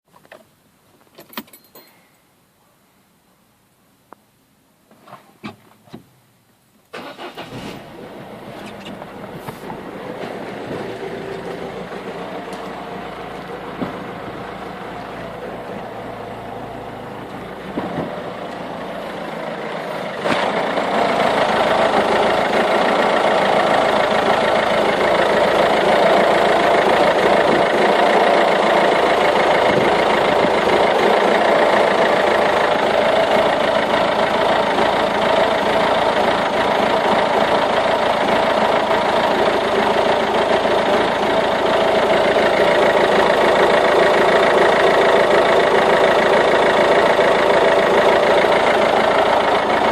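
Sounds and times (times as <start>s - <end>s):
diesel engine idling roughly: 7.0s - 49.9s.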